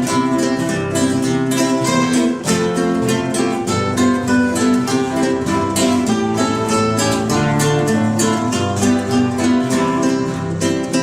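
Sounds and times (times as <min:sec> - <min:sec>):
plucked strings background music: 0:00.0 - 0:11.0.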